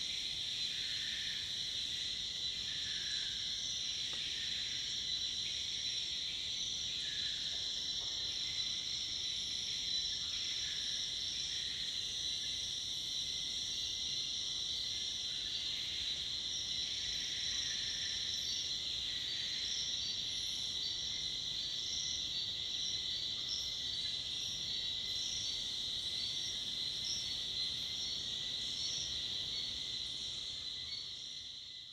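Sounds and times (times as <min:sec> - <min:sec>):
cicadas and crickets droning: 0:00.0 - 0:31.9.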